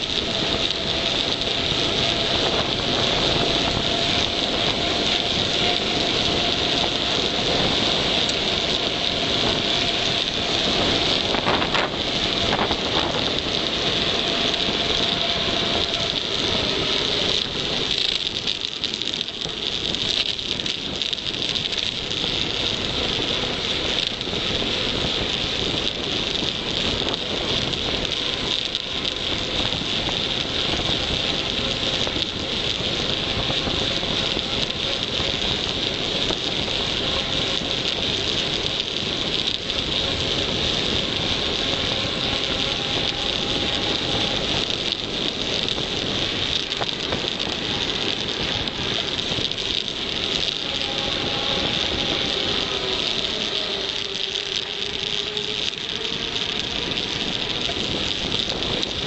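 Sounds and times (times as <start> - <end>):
bike tyres on asphalt: 0.0 - 59.0
wind rushing over microphone: 0.0 - 59.0.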